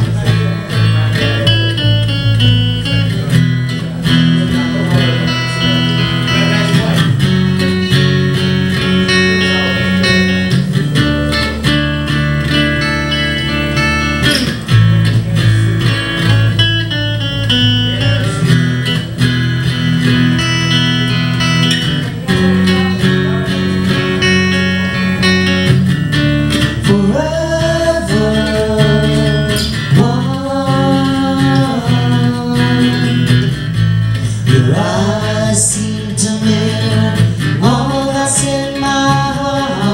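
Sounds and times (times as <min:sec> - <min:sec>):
bass line: 0:00.0 - 0:39.9
strummed acoustic guitar: 0:00.0 - 0:39.9.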